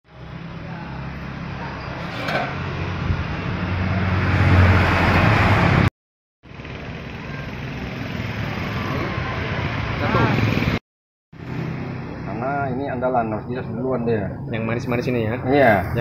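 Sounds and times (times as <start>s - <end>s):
vehicle engine: 0.1s - 10.8s, 11.4s - 16.0s
road traffic: 0.1s - 16.0s.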